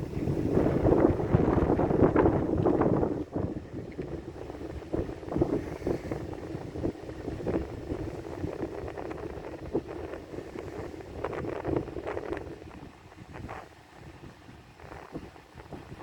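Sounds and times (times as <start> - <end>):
storm wind buffeting microphone: 0.0 - 16.0.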